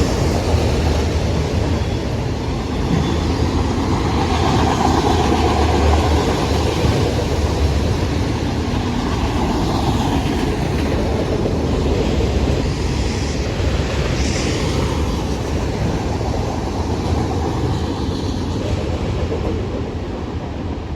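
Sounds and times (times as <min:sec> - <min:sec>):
freight train rumbling past: 0:00.0 - 0:20.9.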